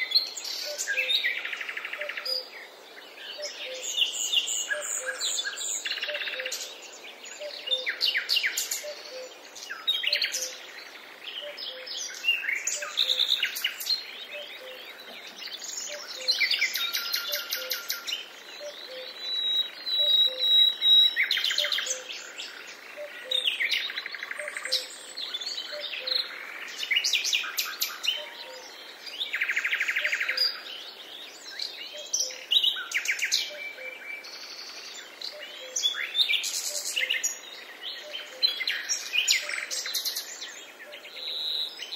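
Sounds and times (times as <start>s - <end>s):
songbirds singing and chirping: 0.0s - 41.9s.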